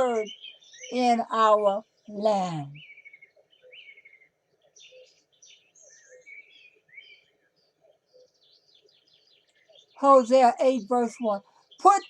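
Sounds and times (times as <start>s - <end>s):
faint songbirds chirping: 0.0s - 12.0s.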